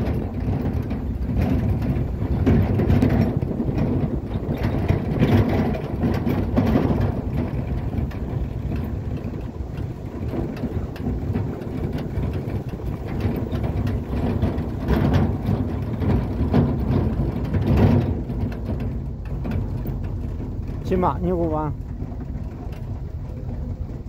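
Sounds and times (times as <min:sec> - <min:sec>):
tyres rumbling on dirt road: 0:00.0 - 0:24.0
vehicle engine running: 0:00.0 - 0:24.0.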